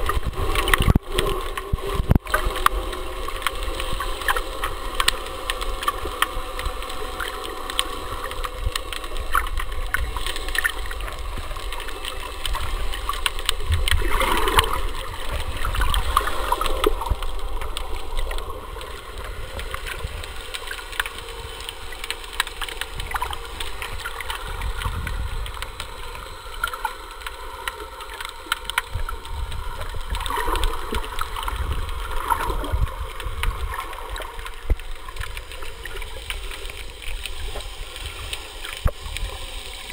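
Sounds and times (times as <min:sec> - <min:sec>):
crackling clicks: 0:00.0 - 0:39.9
underwater rumble of moving water: 0:00.0 - 0:39.9
water gurgling: 0:00.0 - 0:39.9.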